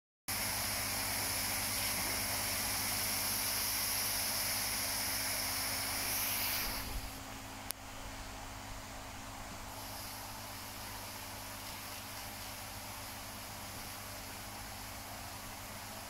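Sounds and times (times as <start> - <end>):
steady hiss: 0.3 - 8.2, 9.3 - 16.0.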